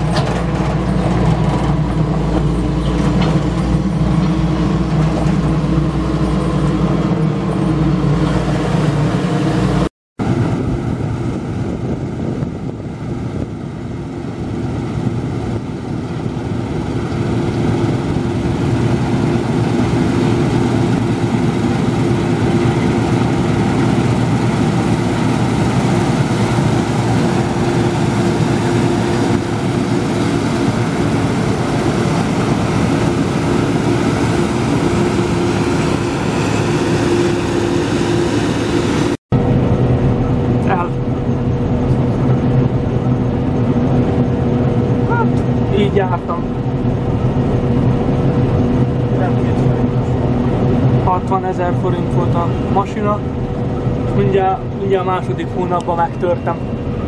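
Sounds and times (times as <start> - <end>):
machinery droning: 0.0 - 57.0.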